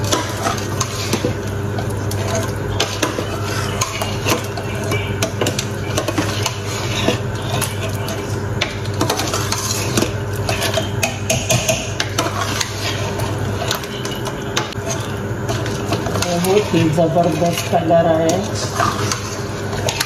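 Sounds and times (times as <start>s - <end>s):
metal spoon scraping a pot: 0.0s - 20.0s.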